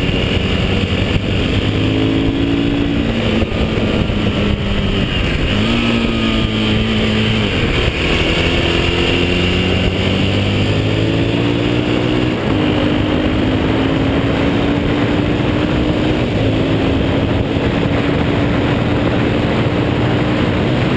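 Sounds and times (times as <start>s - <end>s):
motorcycle engine accelerating: 0.0s - 20.9s
wind rush over microphone: 0.0s - 20.9s.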